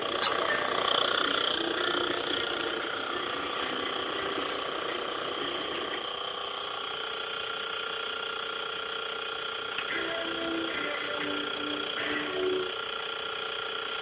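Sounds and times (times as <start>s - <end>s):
videodisc player mechanical drone: 0.0s - 14.0s.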